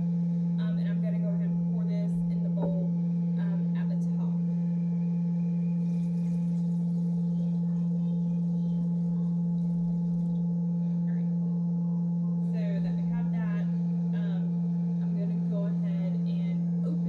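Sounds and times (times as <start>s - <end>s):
cream separator humming: 0.0s - 17.0s.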